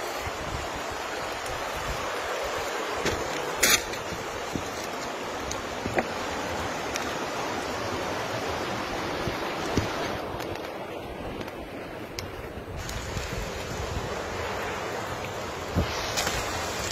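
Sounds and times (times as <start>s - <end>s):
river rushing: 0.0s - 16.9s.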